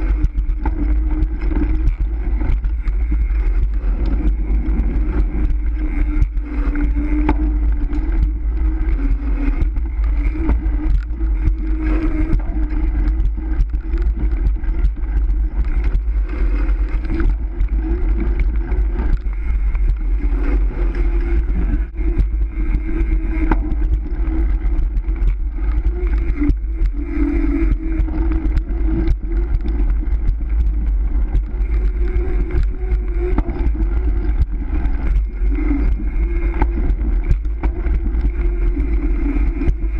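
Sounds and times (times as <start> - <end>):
bicycle tyres humming: 0.0 - 39.9
wind buffeting microphone: 0.0 - 39.9.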